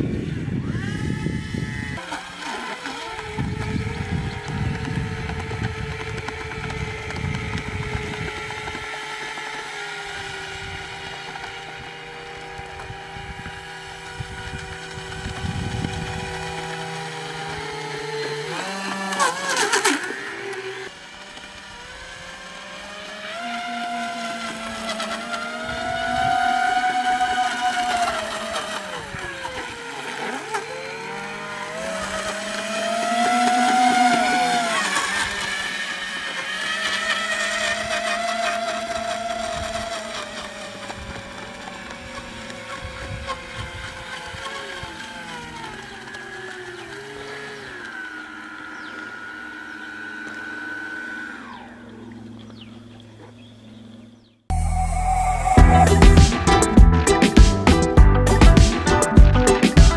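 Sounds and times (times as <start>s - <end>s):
electric propeller motors whining: 0.0s - 59.9s.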